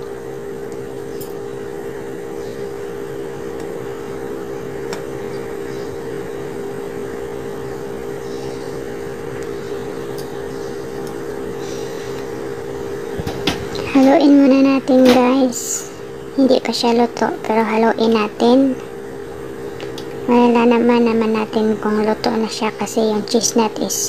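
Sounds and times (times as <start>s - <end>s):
steady motor hum: 0.0s - 24.0s.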